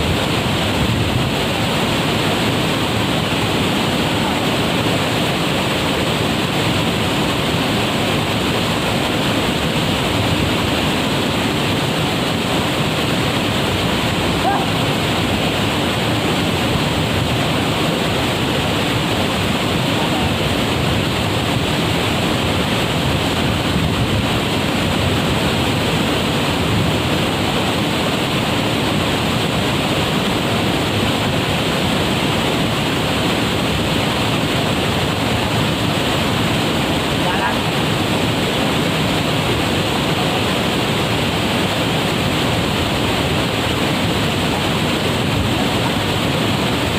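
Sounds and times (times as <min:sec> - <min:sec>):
waterfall pouring: 0:00.0 - 0:46.9.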